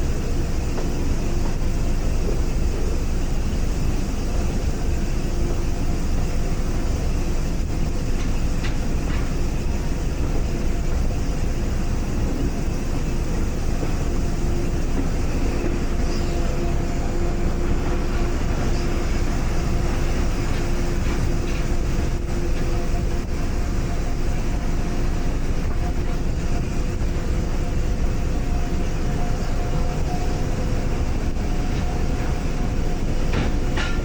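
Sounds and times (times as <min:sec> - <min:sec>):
train rumbling along track: 0:00.0 - 0:34.0.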